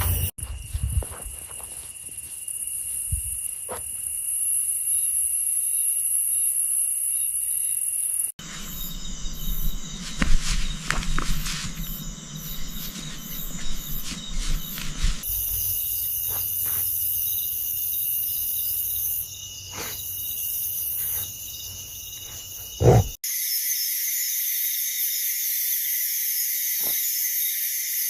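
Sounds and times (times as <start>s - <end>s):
crickets chirring: 0.0s - 28.0s
hissy insect drone: 0.0s - 28.0s.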